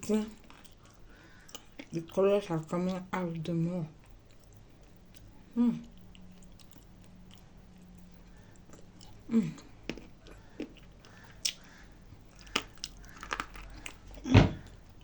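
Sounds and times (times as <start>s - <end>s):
chewing and crunching clay: 0.0s - 3.2s, 4.0s - 15.0s.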